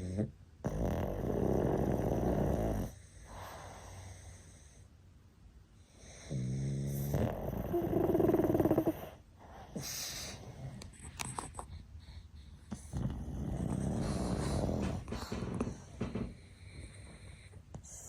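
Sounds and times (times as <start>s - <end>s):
dogs snoring: 0.0s - 4.9s, 5.8s - 18.0s.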